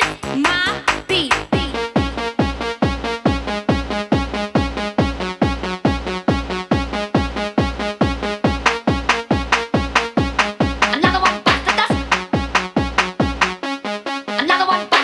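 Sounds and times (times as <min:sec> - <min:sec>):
four-on-the-floor kick drum: 0:00.0 - 0:13.6
repeating synth pattern: 0:00.0 - 0:15.0.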